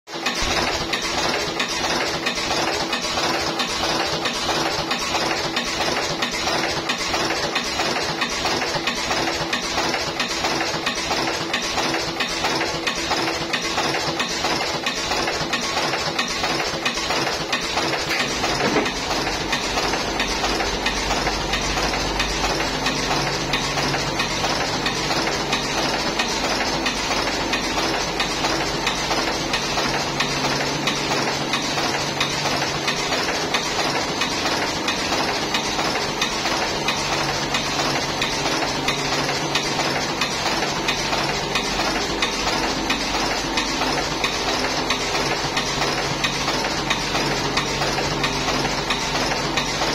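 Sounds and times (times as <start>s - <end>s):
machine mechanical clatter: 0.1s - 49.9s.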